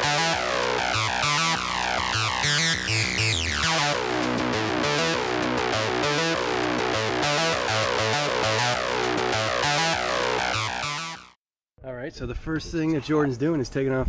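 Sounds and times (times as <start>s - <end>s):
electronic synthesizer music: 0.0s - 11.4s
repeating bass line: 0.0s - 11.4s.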